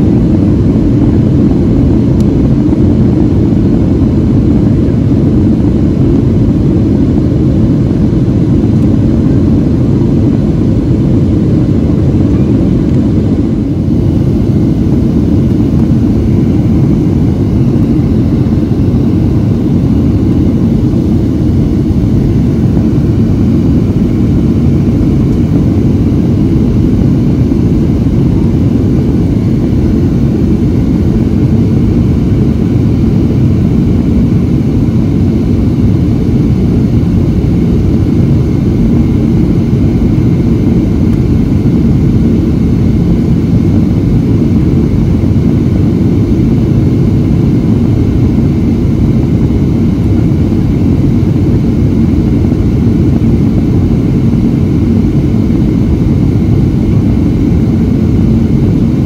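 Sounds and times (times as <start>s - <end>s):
airflow rush and engine drone: 0.0s - 59.0s
faint steady whine: 0.0s - 59.0s.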